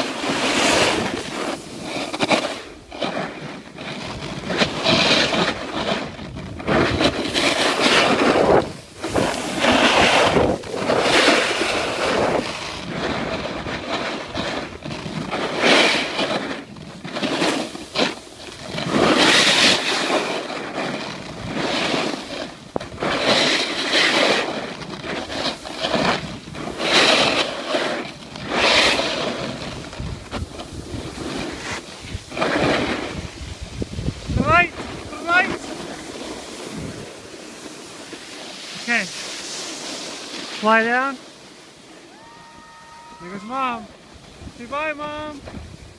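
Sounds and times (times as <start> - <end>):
wind on microphone: 0.0 - 39.2, 41.9 - 45.9
snowboard scraping packed snow: 0.0 - 45.9.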